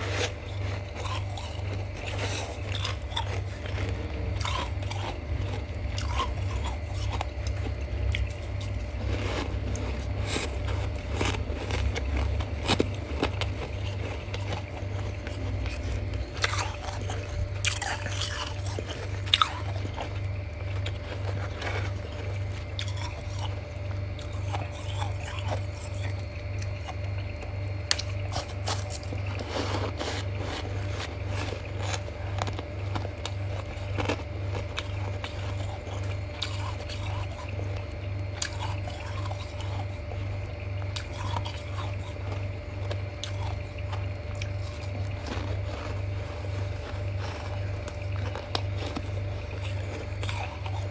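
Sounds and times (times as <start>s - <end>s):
chewing crunchy frost: 0.0s - 50.9s
steady low hum: 0.0s - 50.9s.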